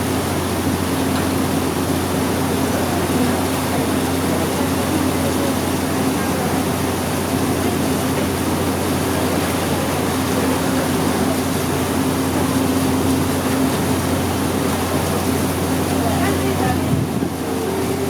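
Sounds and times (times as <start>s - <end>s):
ferry engine humming: 0.0s - 18.0s.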